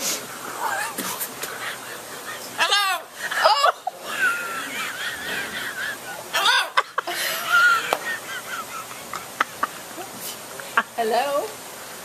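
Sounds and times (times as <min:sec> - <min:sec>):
woman laughing: 0:00.6 - 0:11.2.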